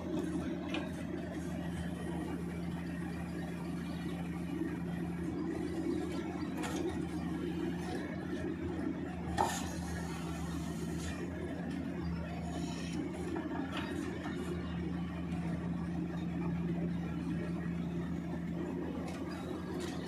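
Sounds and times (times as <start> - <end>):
pile driver engine drone: 0.0 - 20.0.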